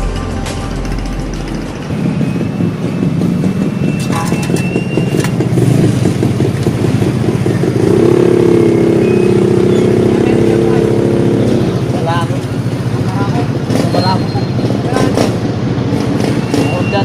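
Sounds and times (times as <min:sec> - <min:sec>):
small motorcycle engine revving: 0:01.9 - 0:17.0.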